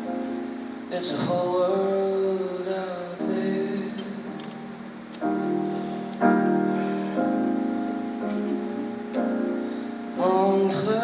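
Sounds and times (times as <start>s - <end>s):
person singing jazz: 0.0s - 11.0s
piano sustained chords: 0.0s - 11.0s.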